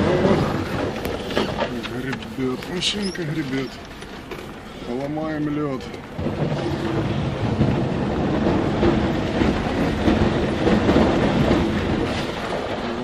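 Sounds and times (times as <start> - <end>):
car engine pulling under load: 0.0 - 13.0
knocks under wheels: 0.0 - 13.0.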